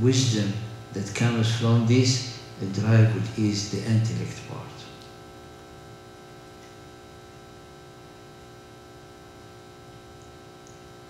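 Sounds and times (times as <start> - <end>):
electrical mains hum: 0.0 - 11.0
microphone hiss: 0.0 - 11.0.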